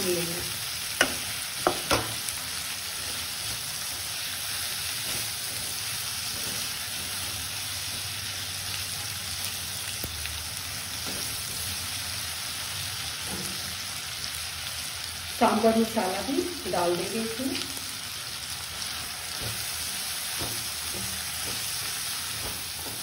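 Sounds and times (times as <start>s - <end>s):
vegetables sizzling in oil: 0.0s - 23.0s.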